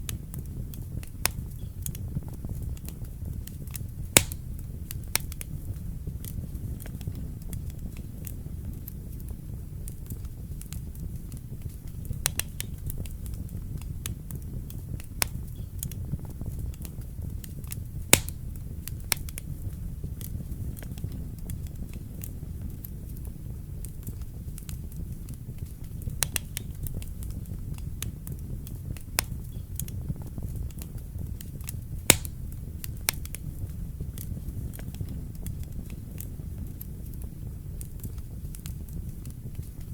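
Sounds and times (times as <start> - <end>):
fire crackling and popping: 0.0 - 39.9
fire flames rumbling: 0.0 - 39.9.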